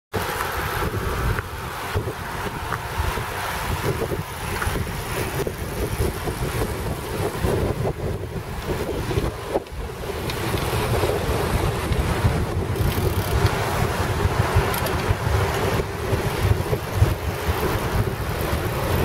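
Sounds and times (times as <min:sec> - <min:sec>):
wind buffeting microphone: 0:00.1 - 0:19.0.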